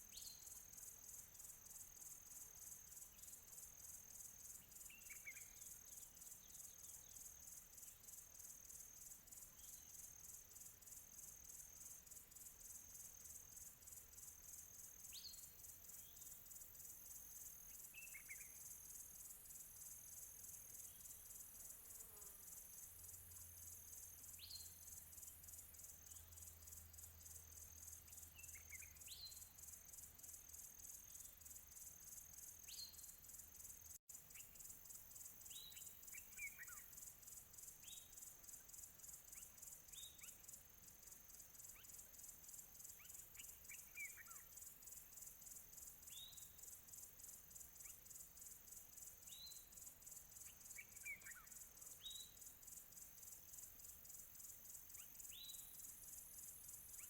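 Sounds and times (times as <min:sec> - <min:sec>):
insect trill: 0:00.0 - 0:57.0
songbird chirping: 0:00.0 - 0:57.0.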